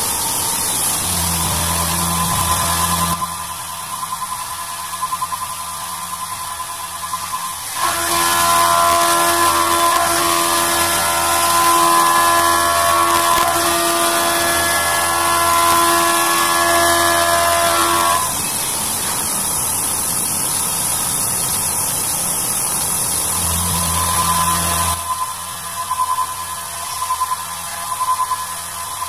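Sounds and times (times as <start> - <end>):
coolant hiss: 0.0 - 29.0
machine hum: 0.0 - 29.0
milling machine cutting whine: 0.0 - 29.0.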